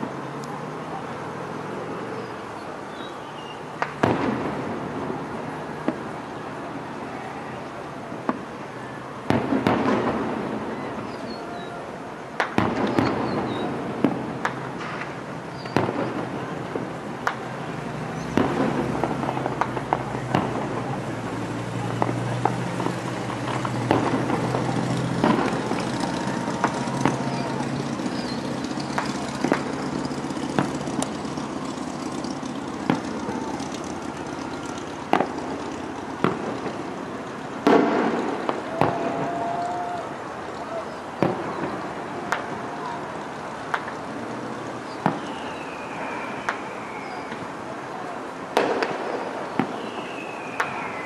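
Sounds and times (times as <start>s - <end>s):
distant fireworks bangs: 3.7s - 6.5s, 8.1s - 40.0s, 40.7s - 47.6s, 48.5s - 51.0s.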